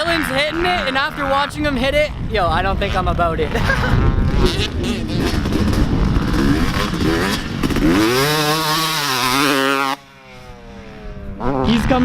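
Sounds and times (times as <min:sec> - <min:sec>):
wind buffeting microphone: 0:00.0 - 0:09.7
dirt bike engine revving: 0:00.0 - 0:12.0.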